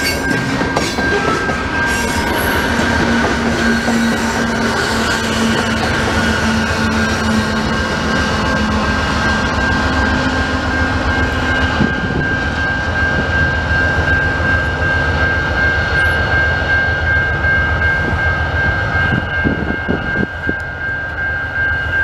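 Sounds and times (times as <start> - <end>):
diesel locomotive rumble: 0.0 - 21.2
railroad crossing bell ringing: 0.0 - 22.0.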